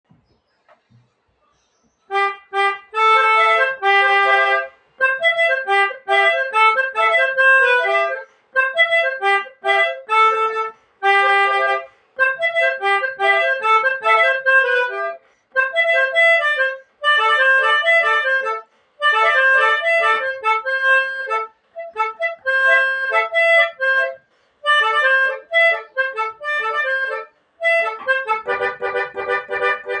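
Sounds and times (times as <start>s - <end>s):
melodica melody: 2.1s - 30.0s.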